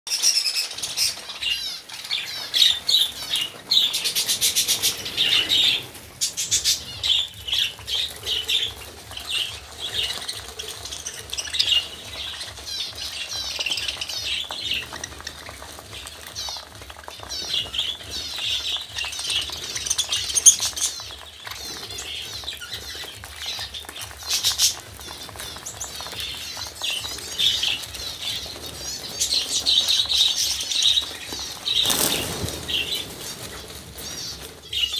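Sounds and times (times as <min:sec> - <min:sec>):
budgerigars chattering and chirping: 0:00.1 - 0:34.9
wing flapping: 0:00.7 - 0:34.9.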